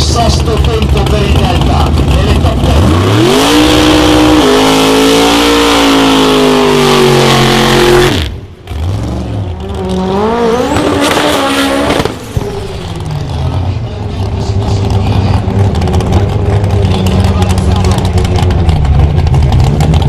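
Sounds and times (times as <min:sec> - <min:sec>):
engine revving: 0:00.0 - 0:20.0
pickup engine at full throttle: 0:00.0 - 0:20.0.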